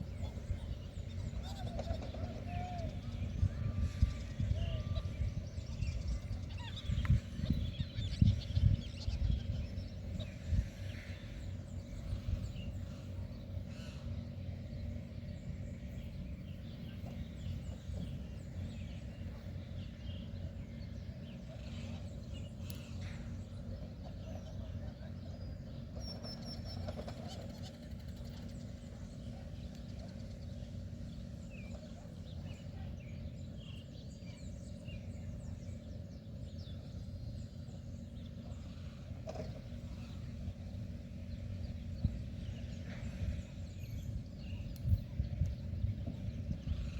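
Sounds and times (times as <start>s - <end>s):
bird calls: 0.0s - 46.9s
steady low rumble: 0.0s - 46.9s.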